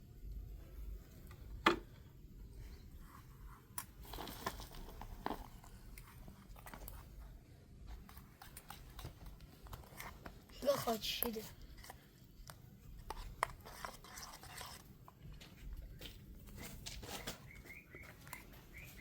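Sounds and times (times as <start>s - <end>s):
crunchy handling noises: 0.6s - 19.0s
crackling crunching sounds: 3.3s - 19.0s.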